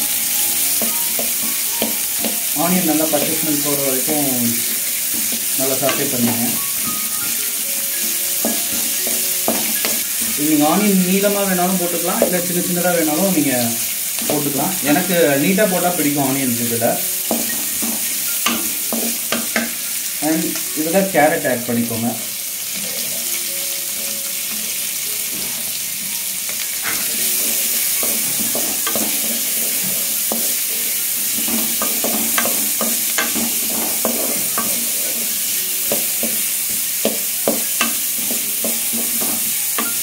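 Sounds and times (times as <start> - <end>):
vegetables sizzling in oil: 0.0 - 40.0.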